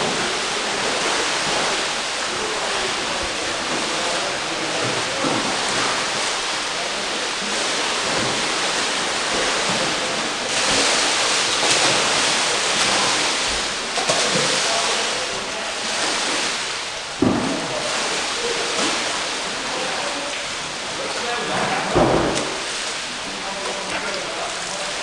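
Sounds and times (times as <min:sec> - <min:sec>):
water splashing and churning: 0:00.0 - 0:25.0.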